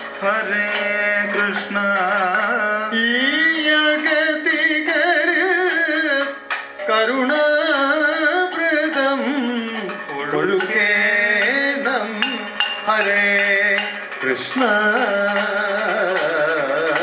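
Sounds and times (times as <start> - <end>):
men singing ornamented melody: 0.0 - 17.0
sharp drum strikes: 0.0 - 17.0.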